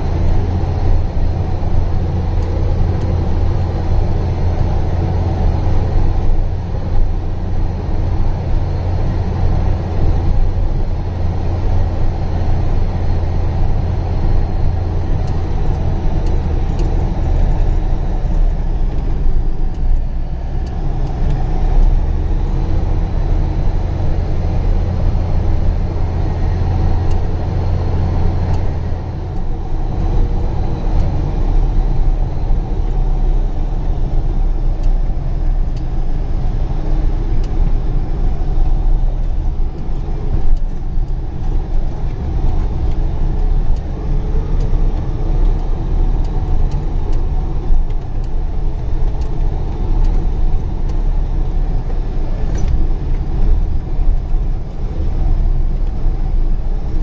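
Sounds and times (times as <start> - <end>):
truck engine drone: 0.0 - 57.0.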